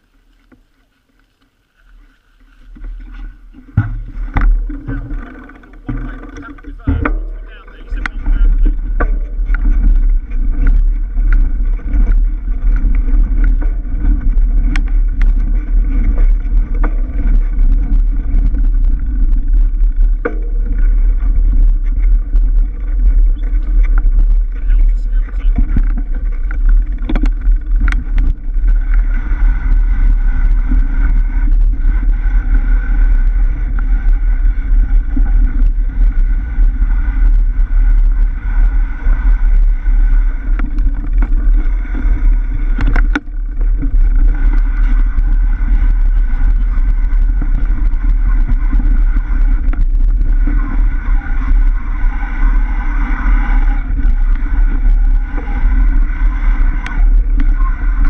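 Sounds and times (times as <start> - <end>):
wind and tyre rumble: 0.0 - 58.0.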